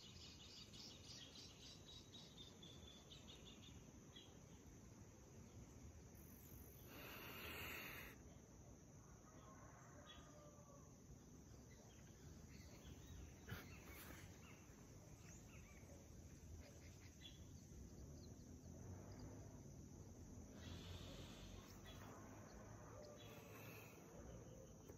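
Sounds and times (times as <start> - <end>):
faint bird chirps: 0.0 - 24.9.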